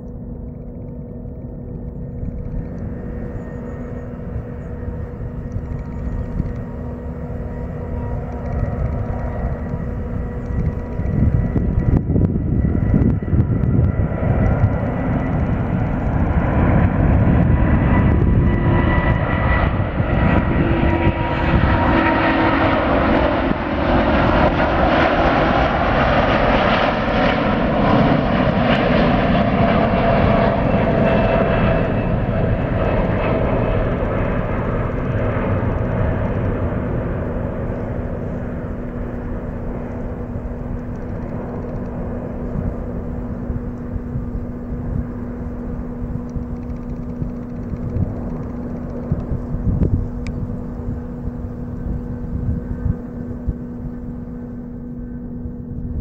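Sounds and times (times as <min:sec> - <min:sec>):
jet engine roar with whining: 0:00.0 - 0:56.0.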